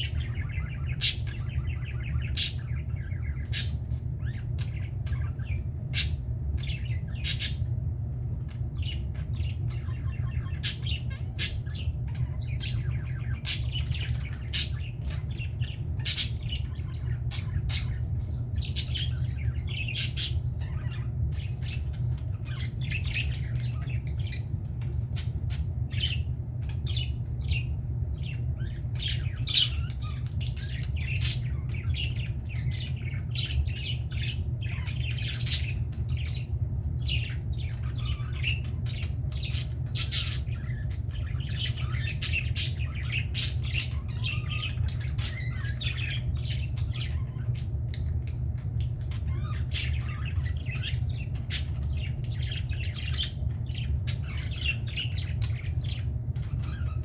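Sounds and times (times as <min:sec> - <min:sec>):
budgerigars chirping and squawking: 0:00.0 - 0:57.0
steady low hum: 0:00.0 - 0:57.0.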